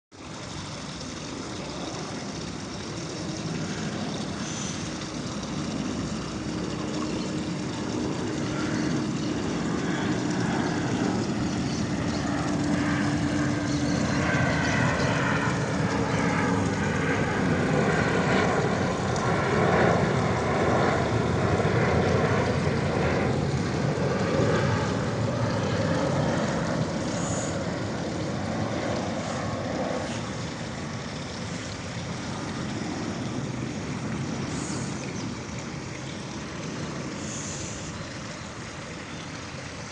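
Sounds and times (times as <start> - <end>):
airplane engine noise: 0.1 - 39.9.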